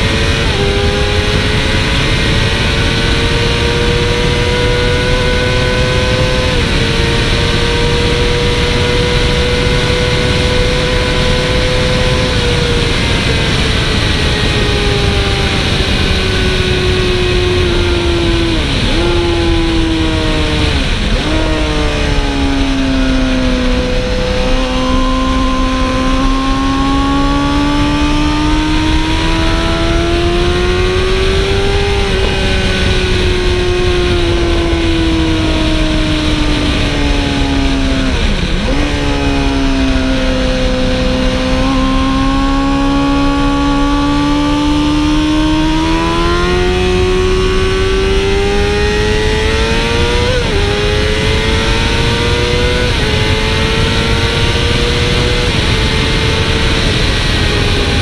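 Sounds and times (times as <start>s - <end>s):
motorcycle engine running hard: 0.0s - 58.0s
wind rush: 0.0s - 58.0s.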